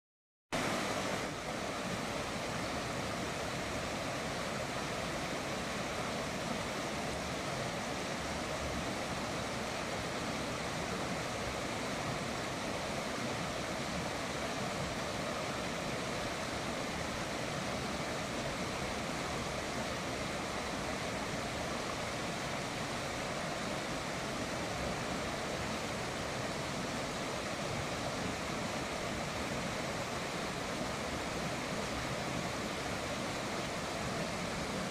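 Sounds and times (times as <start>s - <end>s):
river water rushing: 0.6s - 34.9s.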